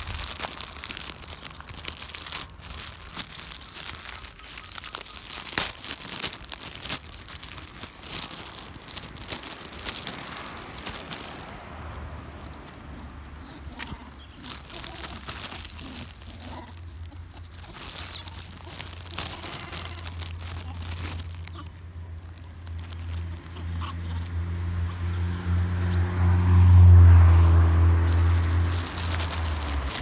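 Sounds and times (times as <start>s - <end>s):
plastic container crinkling: 0.0s - 26.1s, 27.2s - 30.0s.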